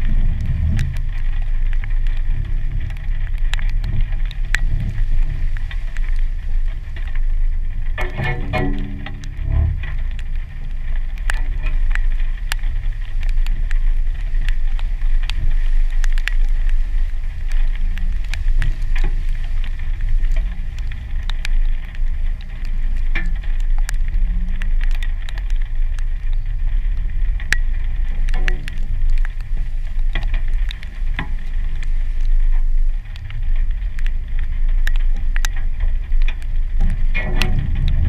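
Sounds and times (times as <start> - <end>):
raindrops striking camera: 0.0 - 38.0.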